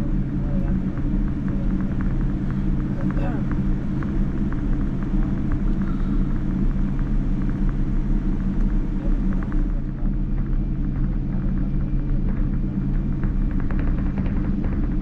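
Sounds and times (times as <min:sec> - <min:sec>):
aircraft cabin engine hum: 0:00.0 - 0:15.0.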